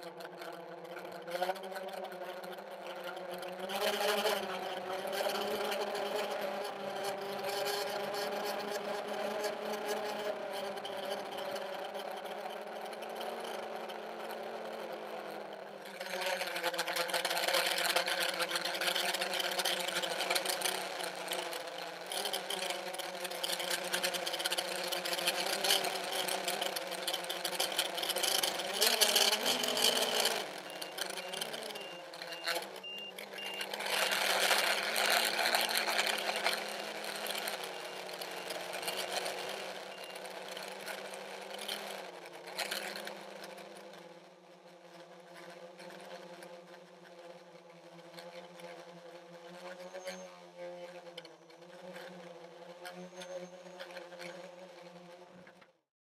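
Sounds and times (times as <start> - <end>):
quadcopter motors whining: 0.2 - 46.5, 48.2 - 55.8.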